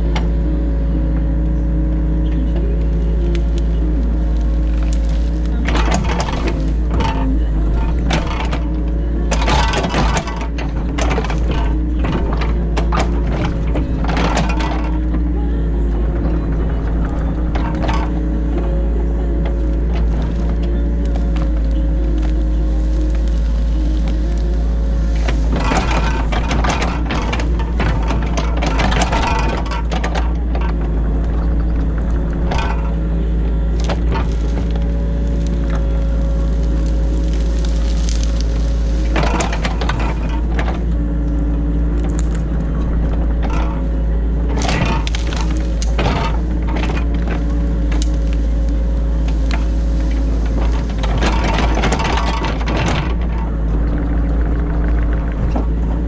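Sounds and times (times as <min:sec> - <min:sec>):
excavator engine droning: 0:00.0 - 0:56.0.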